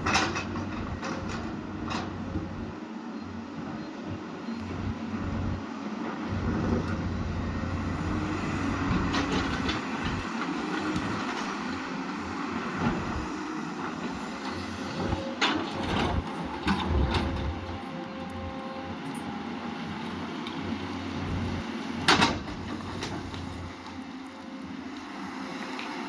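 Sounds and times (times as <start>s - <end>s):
excavator engine running under load: 0.0s - 26.0s.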